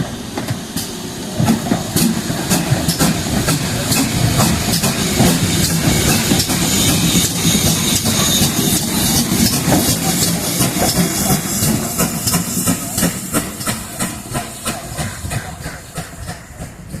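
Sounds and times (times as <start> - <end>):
steam hiss: 0.0 - 17.0
locomotive clicking beat: 0.3 - 17.0.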